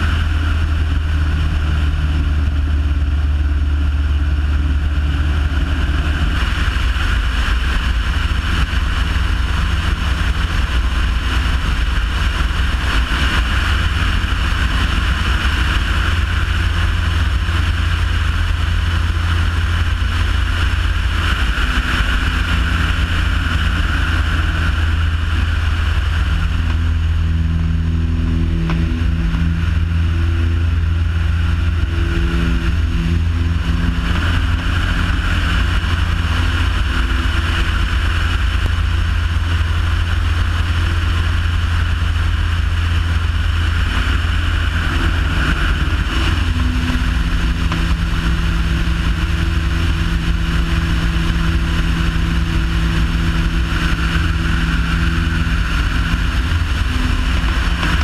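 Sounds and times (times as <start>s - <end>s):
propeller aircraft engine: 0.0s - 58.0s
wind rushing over microphone: 0.0s - 58.0s.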